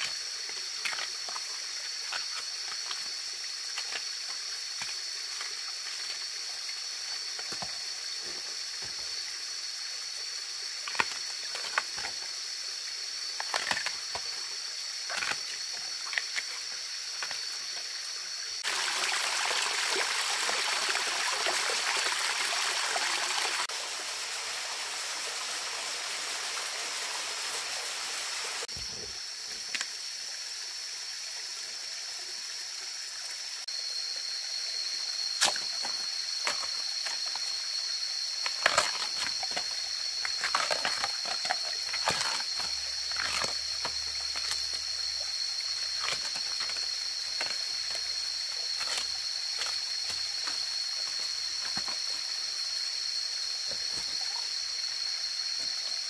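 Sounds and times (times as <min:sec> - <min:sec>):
stream flowing over gravel: 0:00.0 - 0:28.8, 0:34.8 - 0:55.8.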